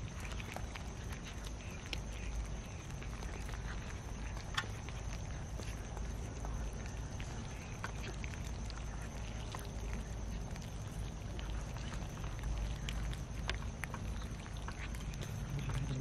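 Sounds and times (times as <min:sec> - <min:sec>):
cats chewing and lapping: 0:00.0 - 0:16.0.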